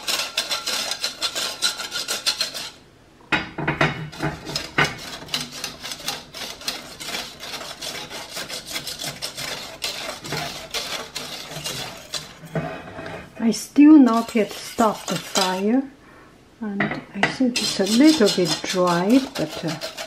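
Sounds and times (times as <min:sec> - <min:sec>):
whisk scraping a saucepan: 0:00.0 - 0:02.8, 0:04.1 - 0:13.4, 0:14.0 - 0:15.9, 0:17.3 - 0:20.0.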